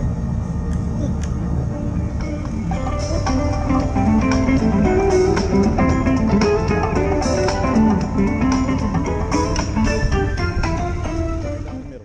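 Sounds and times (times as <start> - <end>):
guitar music over steady beat: 2.0 - 11.9.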